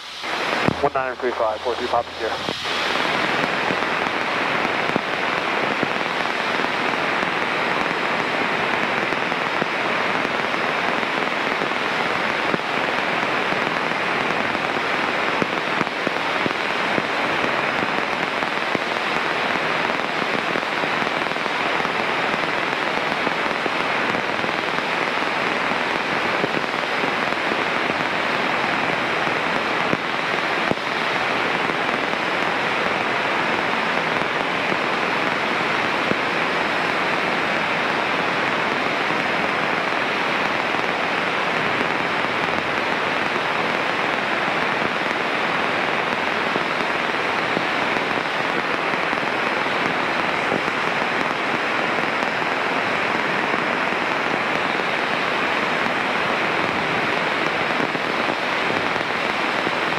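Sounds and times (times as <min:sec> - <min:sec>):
radio static hiss: 0:00.0 - 0:59.9.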